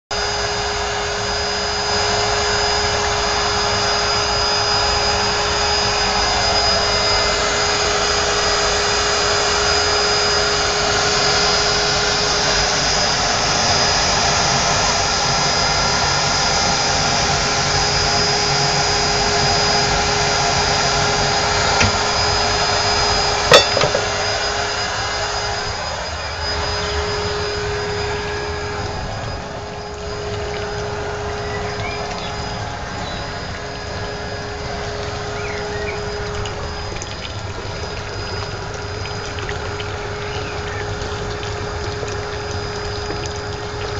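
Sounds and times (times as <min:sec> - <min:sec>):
electric air blower whirring: 0:00.2 - 0:36.8.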